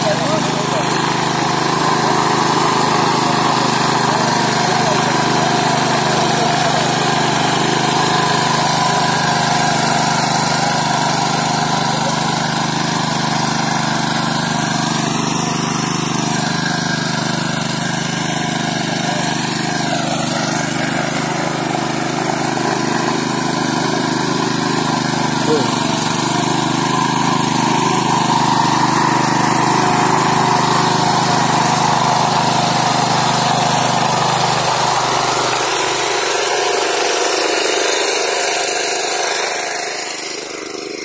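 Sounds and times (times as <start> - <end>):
tiller engine running: 0.0 - 41.0.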